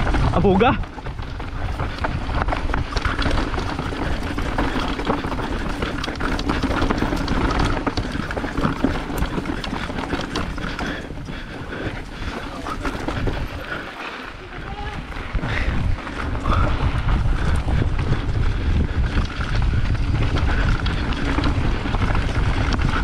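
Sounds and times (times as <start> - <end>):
bike rattling and knocking: 0.0 - 23.0
bike tyres rolling over dirt: 0.0 - 23.0
wind buffeting microphone: 0.0 - 23.0.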